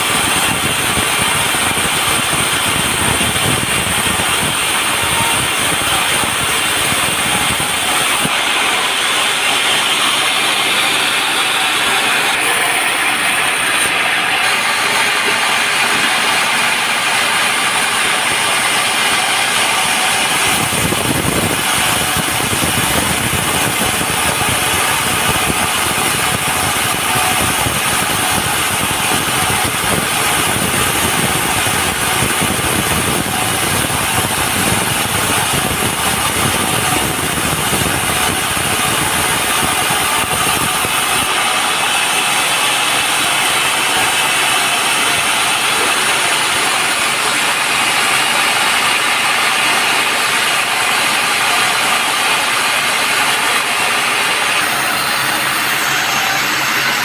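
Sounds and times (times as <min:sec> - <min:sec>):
sawmill sawing log: 0:00.0 - 0:57.0.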